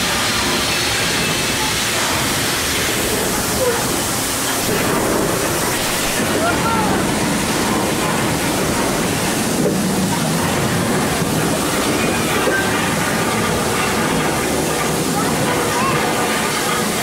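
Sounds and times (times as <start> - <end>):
fire jets bursting: 1.8 - 16.7.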